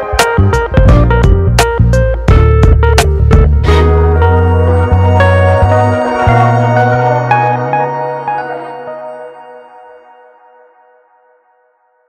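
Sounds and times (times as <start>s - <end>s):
background music with sustained tones: 0.0s - 12.0s.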